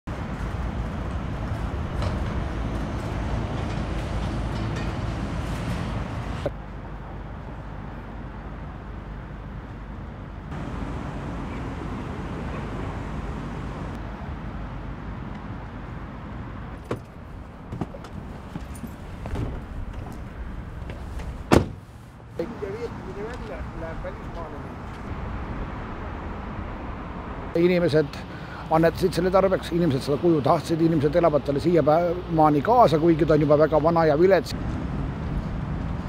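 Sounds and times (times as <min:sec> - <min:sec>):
road traffic noise: 0:00.1 - 0:36.0.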